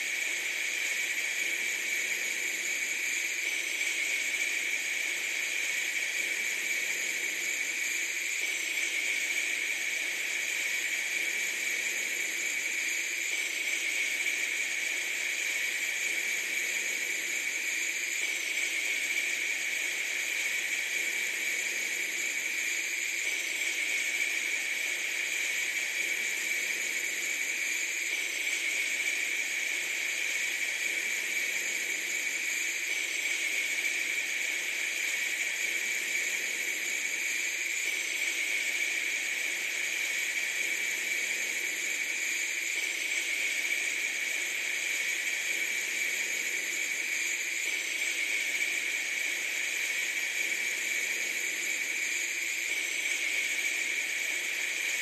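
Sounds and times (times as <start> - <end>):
steady hiss-like noise: 0.0 - 55.0.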